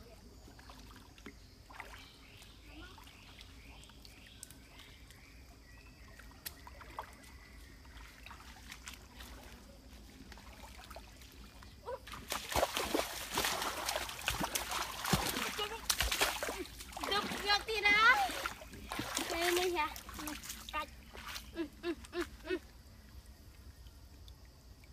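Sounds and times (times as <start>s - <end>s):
splashing in shallow stream: 0.0s - 5.3s, 6.0s - 24.9s
faint water trickling: 0.0s - 24.9s.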